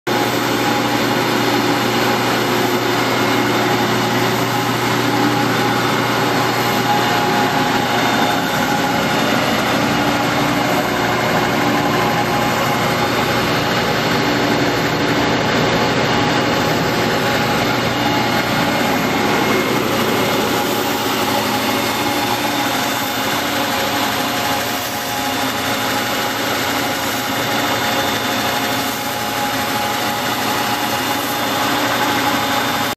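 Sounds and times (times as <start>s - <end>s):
belt sander machine whir: 0.1s - 32.9s.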